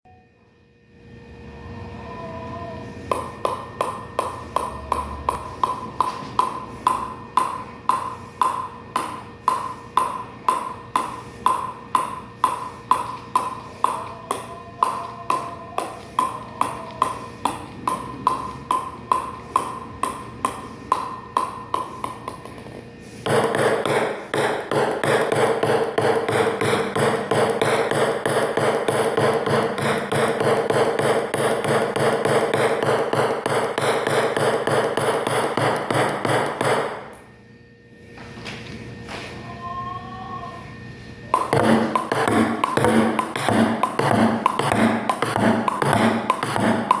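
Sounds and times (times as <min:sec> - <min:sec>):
rapid taps: 0:03.1 - 0:37.0, 0:41.3 - 0:47.0
table tennis ball bouncing: 0:03.1 - 0:37.3, 0:41.3 - 0:47.0.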